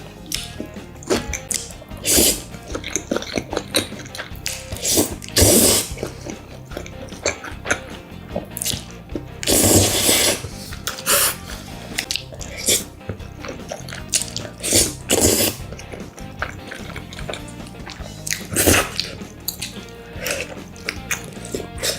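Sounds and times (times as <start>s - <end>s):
wet chewing: 0.0s - 21.9s
noodle slurps: 0.3s - 21.9s.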